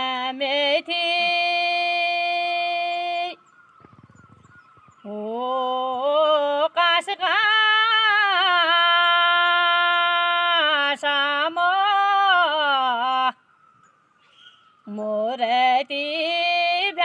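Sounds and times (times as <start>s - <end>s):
woman singing unaccompanied: 0.0s - 3.5s, 5.0s - 13.5s, 14.8s - 17.0s.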